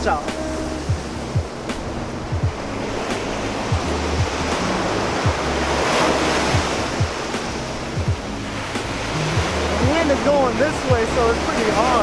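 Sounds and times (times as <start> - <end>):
background music with kick drum: 0.0 - 12.0
ocean surf breaking: 0.0 - 12.0
wind on microphone: 0.0 - 12.0.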